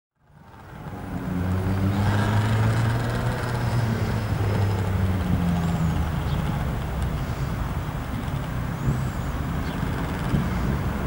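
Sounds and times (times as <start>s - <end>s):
light aircraft engine droning: 0.2s - 11.0s.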